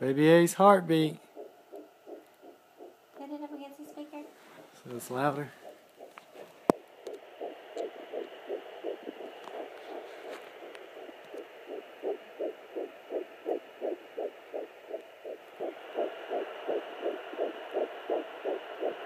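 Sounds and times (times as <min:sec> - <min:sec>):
steady hiss: 0:00.0 - 0:19.0
fetal heartbeat pulses: 0:00.4 - 0:19.0.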